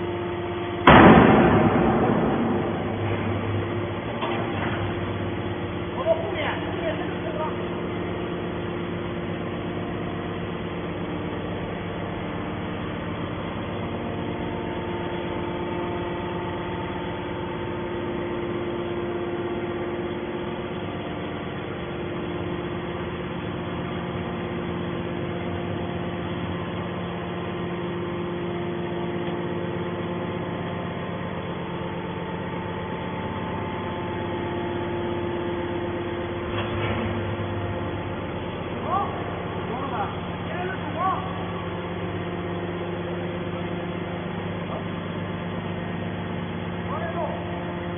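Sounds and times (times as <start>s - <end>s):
hydraulic machine hum: 0.0s - 47.9s.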